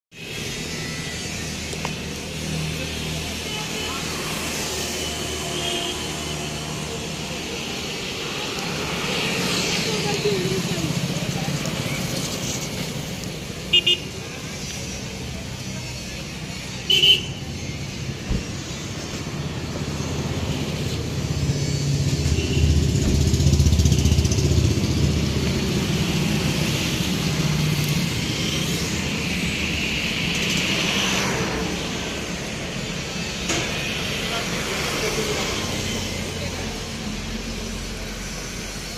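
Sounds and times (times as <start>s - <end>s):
road traffic rumble: 0.1s - 38.9s.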